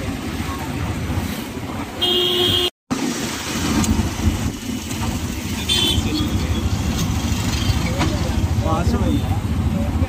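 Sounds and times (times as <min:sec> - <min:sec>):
vehicle and road noise: 0:00.0 - 0:10.0.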